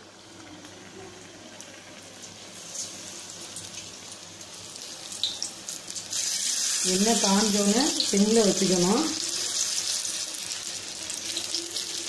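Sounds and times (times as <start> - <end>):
deep-frying sizzle and crackles: 0.0 - 12.0.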